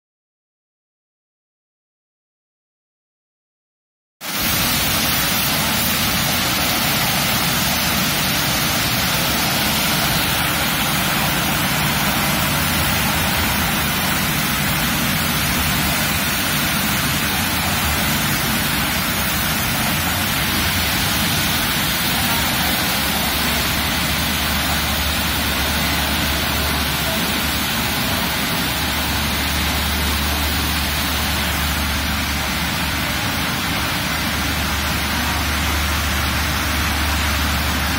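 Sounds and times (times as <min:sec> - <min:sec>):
water jets spraying: 0:04.3 - 0:37.9
low machine hum: 0:04.5 - 0:37.9.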